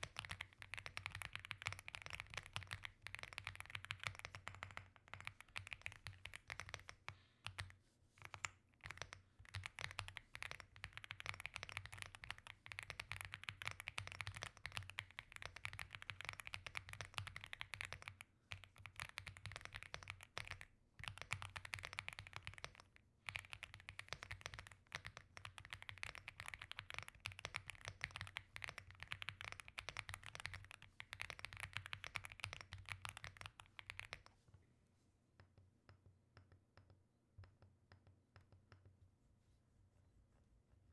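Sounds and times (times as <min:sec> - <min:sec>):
mechanical keyboard typing: 0:00.0 - 0:07.7, 0:08.3 - 0:34.3.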